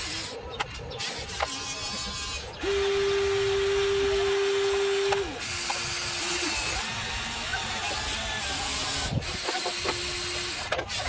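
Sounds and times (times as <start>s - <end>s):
loud motor whine: 0.0s - 11.0s
toy gear motors whirring: 0.0s - 11.0s.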